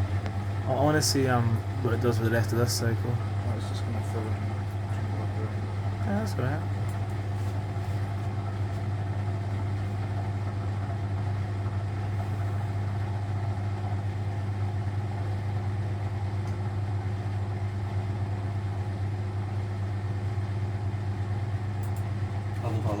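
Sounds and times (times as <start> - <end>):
washing machine hum: 0.0 - 23.0.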